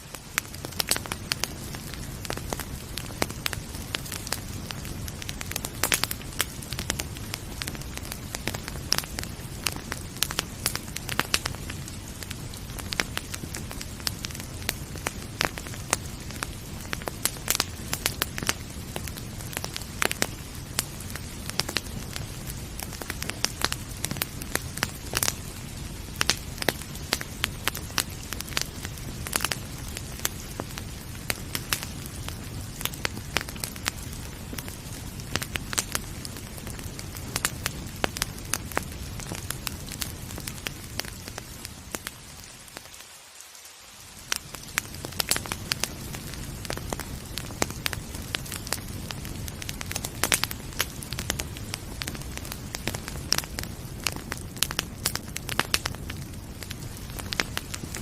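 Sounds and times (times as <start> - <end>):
fire crackling and popping: 0.0 - 58.0
steady hiss of rain: 0.0 - 58.0.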